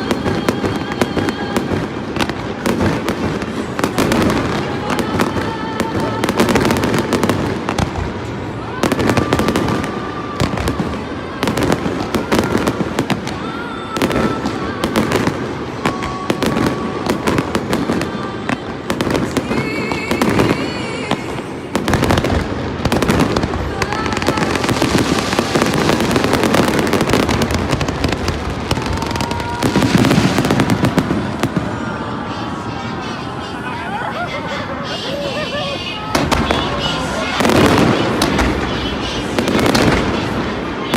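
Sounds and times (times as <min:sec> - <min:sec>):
fireworks bangs and crackling: 0:00.0 - 0:33.5, 0:34.9 - 0:40.9.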